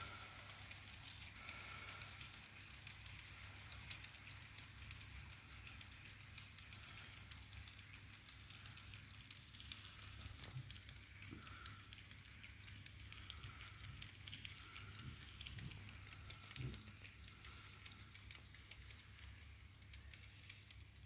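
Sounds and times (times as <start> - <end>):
low steady hum: 0.0 - 21.0
model wagons clicking on track: 0.0 - 21.0.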